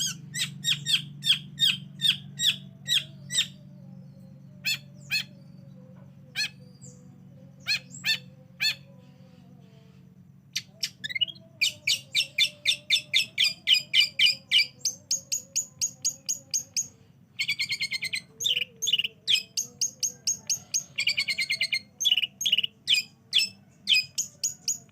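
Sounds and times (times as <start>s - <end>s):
bird singing: 0.0s - 24.9s
faint low hum: 0.0s - 24.9s.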